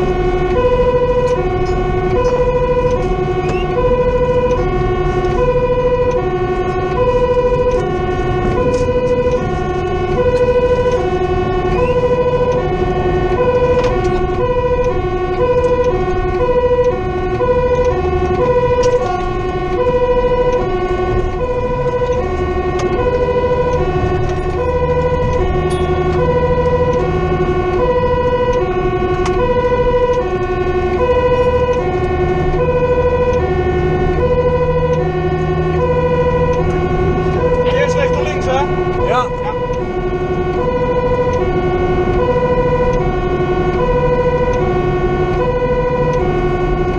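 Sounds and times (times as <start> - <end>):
truck engine running: 0.0 - 46.9
two-tone siren: 0.0 - 46.9.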